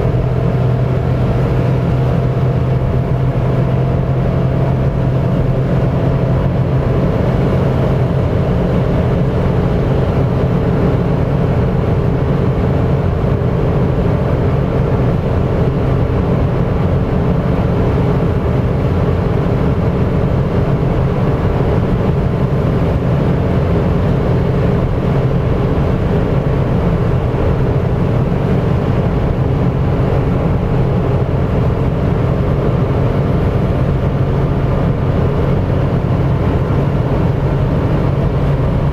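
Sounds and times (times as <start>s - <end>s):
car engine droning at high revs: 0.0s - 38.9s
wind noise: 0.0s - 38.9s.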